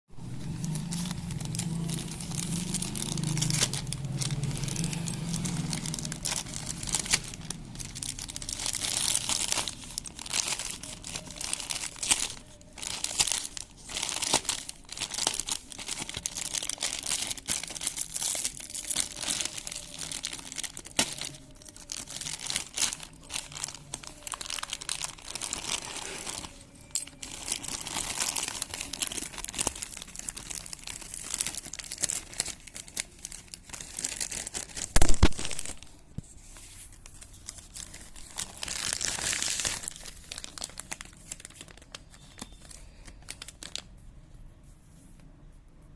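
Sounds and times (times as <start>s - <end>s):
packaging crinkling and ripping: 0.2s - 44.0s.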